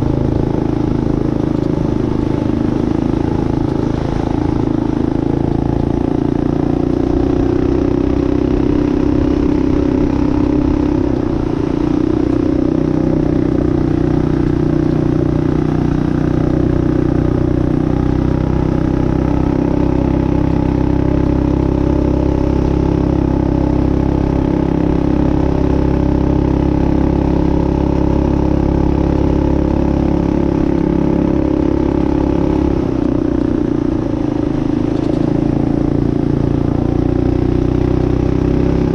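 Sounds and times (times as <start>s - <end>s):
minibike engine running: 0.0s - 38.9s.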